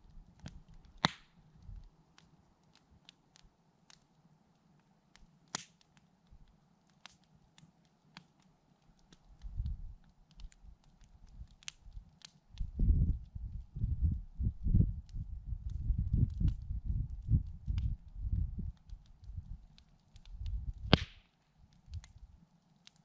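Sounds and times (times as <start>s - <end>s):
campfire wood crackling: 0.0s - 23.0s.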